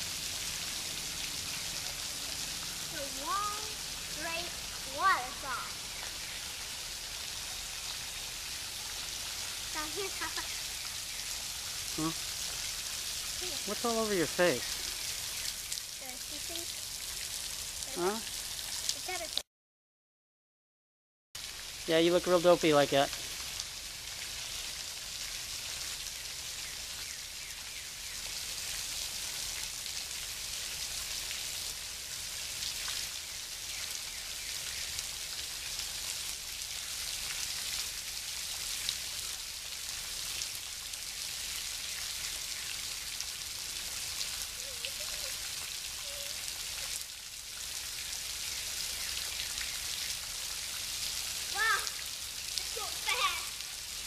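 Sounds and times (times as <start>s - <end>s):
waterfall spattering onto rocks: 0.0s - 19.4s, 21.4s - 54.0s.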